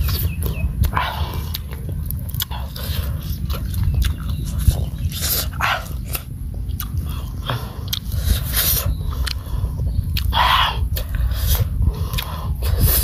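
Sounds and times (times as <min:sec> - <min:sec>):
animal chewing and biting: 0:00.0 - 0:13.0
steady low rumble: 0:00.0 - 0:13.0.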